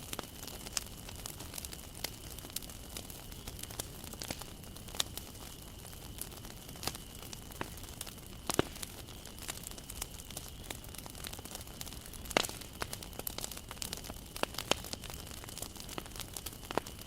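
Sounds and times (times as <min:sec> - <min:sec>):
burning wood popping: 0:00.0 - 0:17.0
wood fire crackling: 0:00.0 - 0:17.0.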